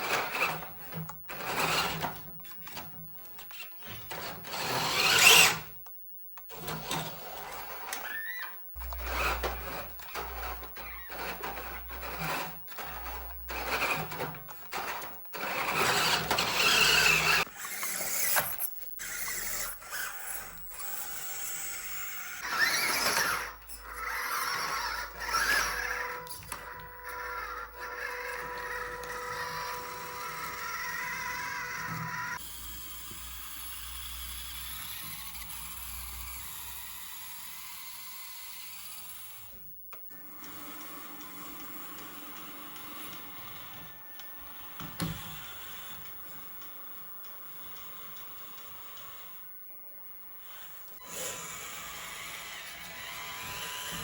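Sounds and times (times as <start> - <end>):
electric motors whining: 0.0 - 5.8, 6.5 - 54.0.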